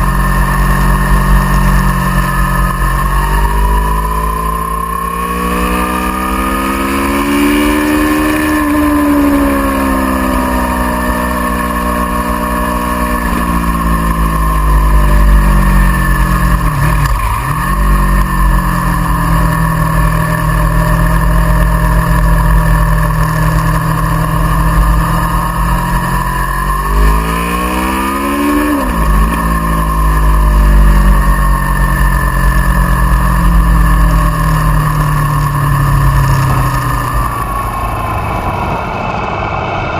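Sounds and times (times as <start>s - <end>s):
low wind rumble: 0.0s - 39.9s
motorcycle engine at speed: 0.0s - 39.9s.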